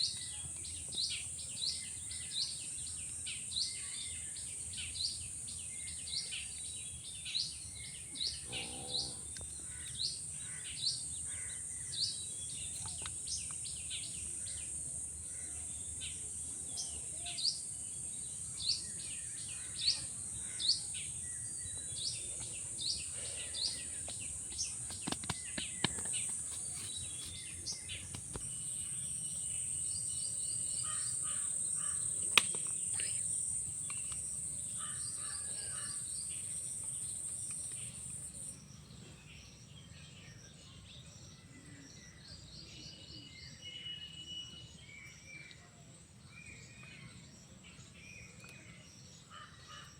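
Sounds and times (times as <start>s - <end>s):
insects droning: 0.0s - 40.7s
bird chirping: 0.0s - 49.9s.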